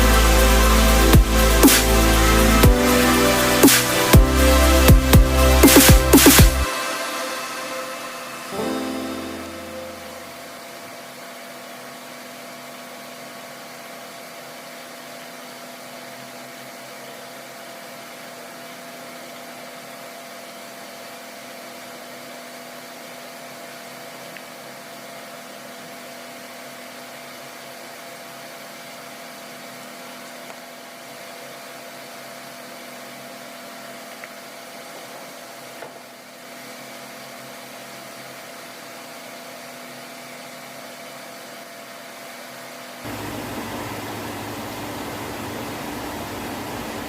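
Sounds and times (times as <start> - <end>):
mechanical hum: 0.0 - 47.0.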